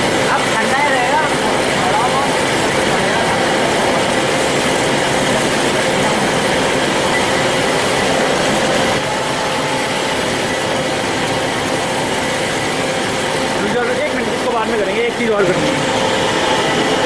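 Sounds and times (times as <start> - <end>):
band saw running: 0.0 - 17.0.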